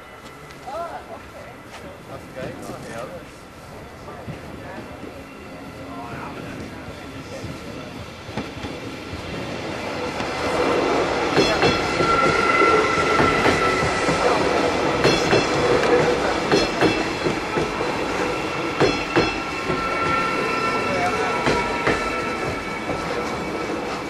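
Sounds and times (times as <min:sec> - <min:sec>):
passenger train passing: 0:00.0 - 0:24.0.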